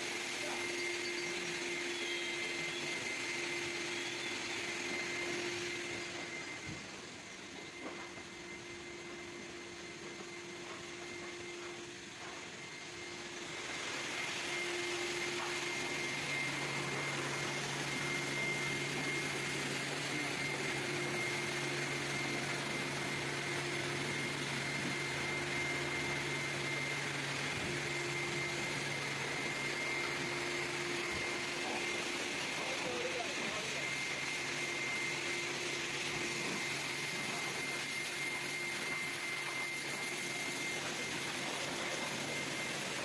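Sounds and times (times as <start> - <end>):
vacuum cleaner whining: 0.0 - 43.0.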